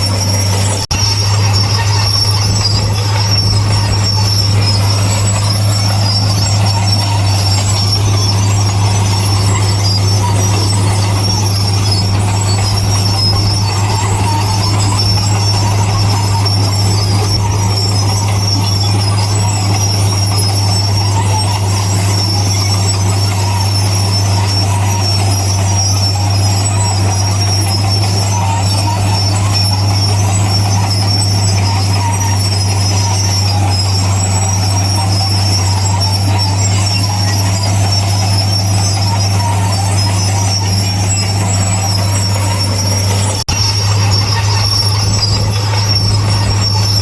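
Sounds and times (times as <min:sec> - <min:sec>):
diesel machinery engine drone: 0:00.0 - 0:47.0
high metallic squeal: 0:00.0 - 0:47.0.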